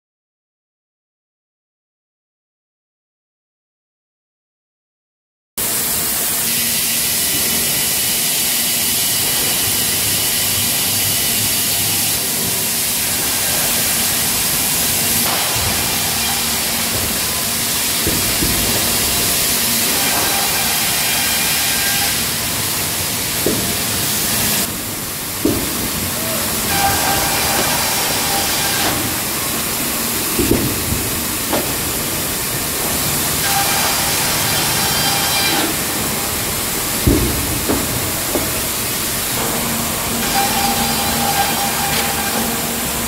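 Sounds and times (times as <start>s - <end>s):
saw machinery hissing: 5.6s - 43.0s.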